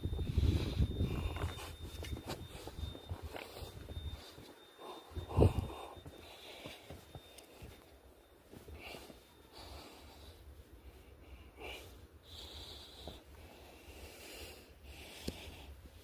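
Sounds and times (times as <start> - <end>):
steady low rumble: 0.0 - 16.0
breathing close to microphone: 0.1 - 7.0, 8.7 - 16.0.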